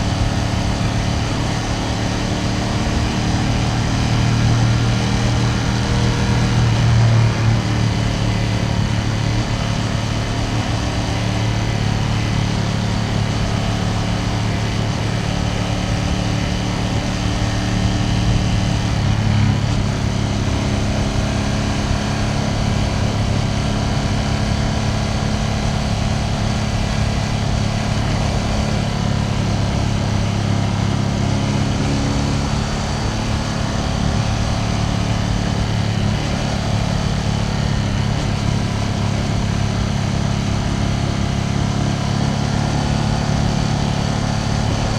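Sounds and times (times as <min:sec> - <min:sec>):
motorcycle engine and exhaust: 0:00.0 - 0:44.9.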